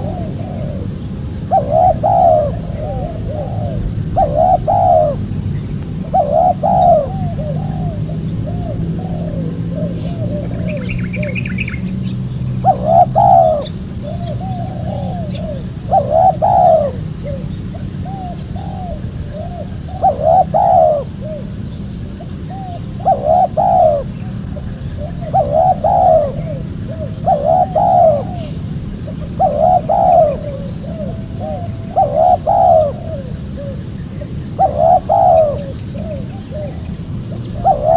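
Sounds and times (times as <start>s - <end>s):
doves cooing: 0.0s - 37.9s
high bird chirping: 0.0s - 37.9s
low hum: 0.0s - 37.9s.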